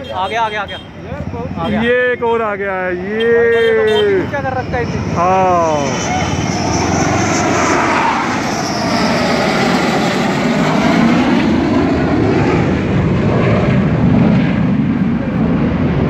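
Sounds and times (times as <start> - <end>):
fighter jet roar overhead: 0.0 - 16.0.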